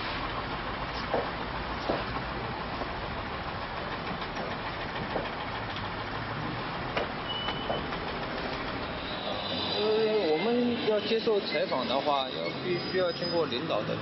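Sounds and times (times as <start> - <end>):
moving vehicle rumble: 0.0 - 14.0.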